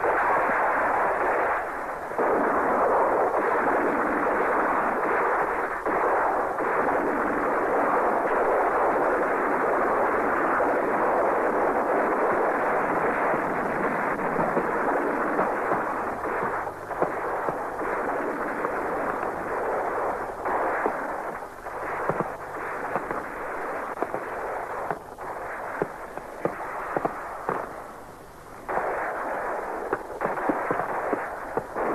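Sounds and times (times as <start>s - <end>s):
explosions: 0.0s - 28.0s, 28.6s - 31.9s
continuous gunfire: 0.0s - 31.9s.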